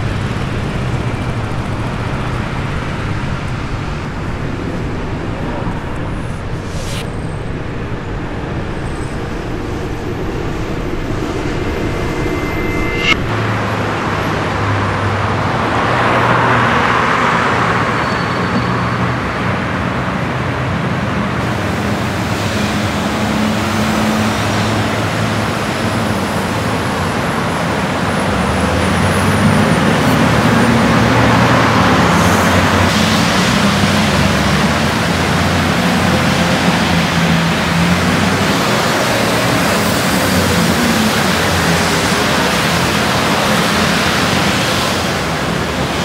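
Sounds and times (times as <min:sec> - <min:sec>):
passing cars and buses: 0:00.0 - 0:46.0.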